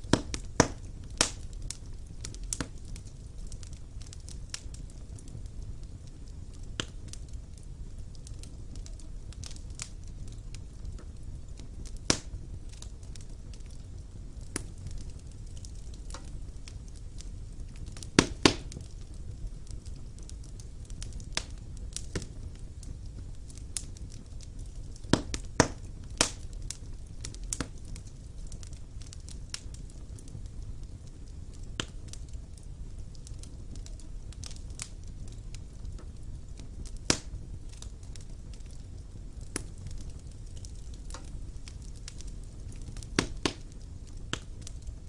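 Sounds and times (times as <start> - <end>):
burning logs crackling and popping: 0.0 - 45.0
fireplace flames roaring: 0.0 - 45.0.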